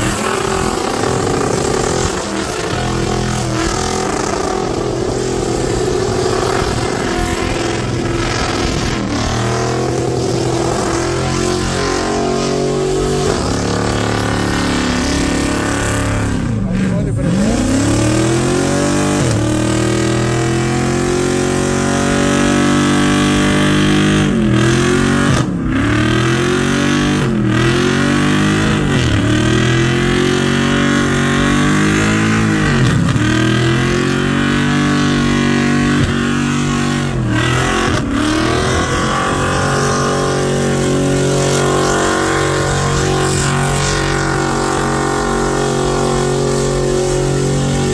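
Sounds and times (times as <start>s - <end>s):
car engine revving during burnout: 0.0s - 47.9s.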